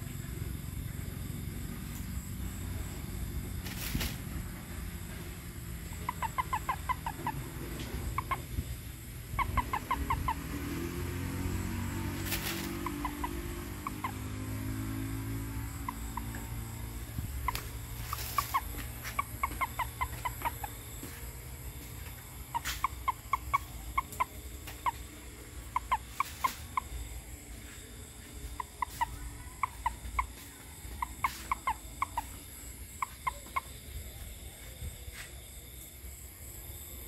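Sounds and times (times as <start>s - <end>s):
frogs clucking: 0.0s - 37.0s.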